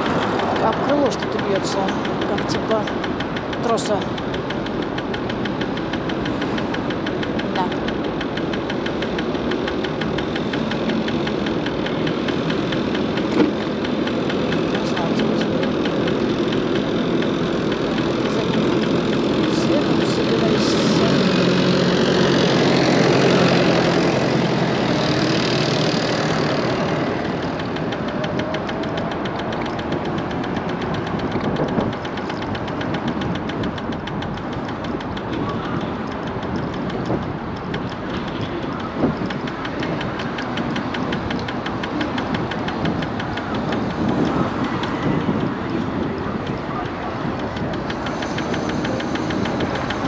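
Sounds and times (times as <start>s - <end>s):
electric scooter riding: 0.0s - 50.0s
rapid ticking from wheel: 0.0s - 50.0s
wind and road noise: 0.0s - 50.0s.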